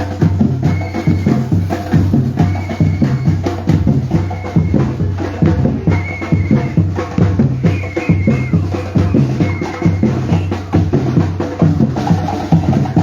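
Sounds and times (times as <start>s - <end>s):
deep bass drums: 0.0s - 13.0s
percussion group drumming: 0.0s - 13.0s.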